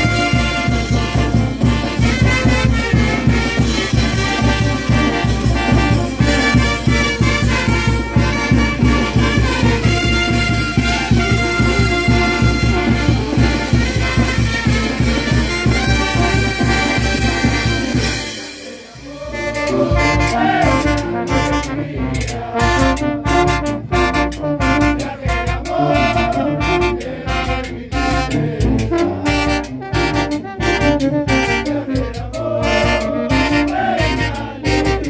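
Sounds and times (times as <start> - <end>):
steady drum beat: 0.0 - 35.0
trumpets and trombones: 0.0 - 35.0.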